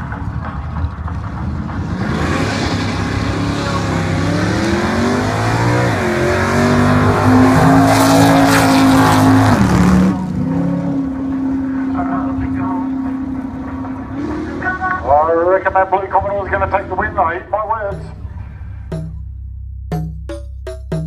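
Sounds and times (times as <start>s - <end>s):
drag car engines accelerating: 0.0s - 18.9s.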